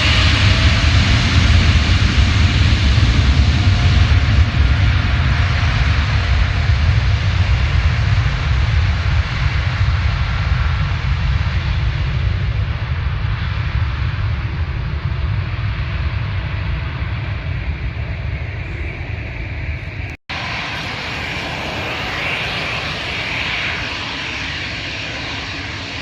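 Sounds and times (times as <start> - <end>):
airliner engine roar: 0.0 - 26.0.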